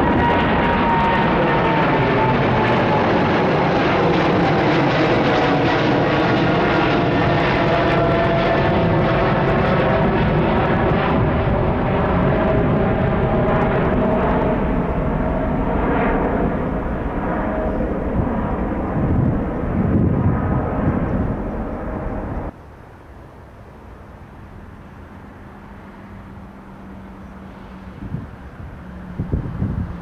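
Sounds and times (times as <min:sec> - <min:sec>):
jet airliner passing overhead: 0:00.0 - 0:30.0
outdoor background: 0:00.0 - 0:30.0.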